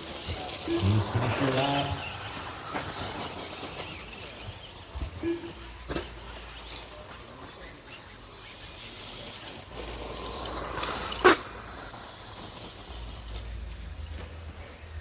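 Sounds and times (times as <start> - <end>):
rc truck running: 0.0 - 15.0.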